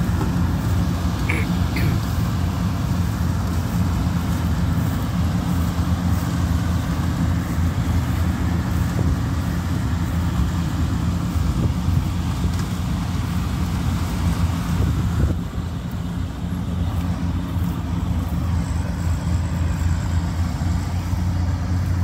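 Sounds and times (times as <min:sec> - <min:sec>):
combine harvester engine droning: 0:00.0 - 0:22.0.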